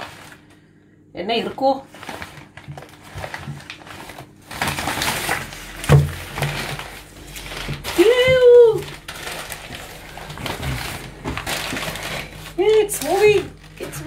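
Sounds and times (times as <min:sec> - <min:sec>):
paper rustling and crinkling: 0:00.0 - 0:00.7, 0:01.3 - 0:14.0.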